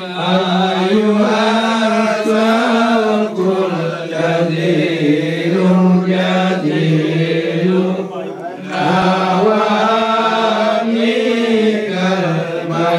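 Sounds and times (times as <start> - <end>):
voices chanting long notes: 0.0 - 12.9.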